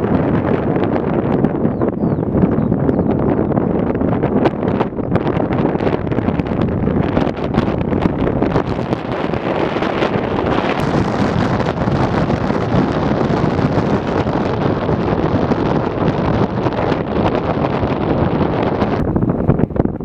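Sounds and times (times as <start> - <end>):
jet engine noise: 0.0 - 20.0
wind blowing across microphone: 0.0 - 20.0.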